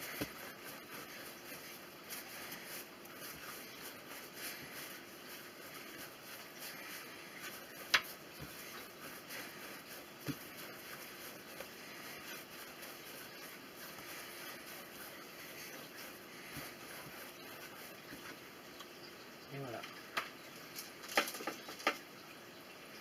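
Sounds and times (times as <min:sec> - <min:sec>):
hands rolling dough: 0:00.0 - 0:18.9.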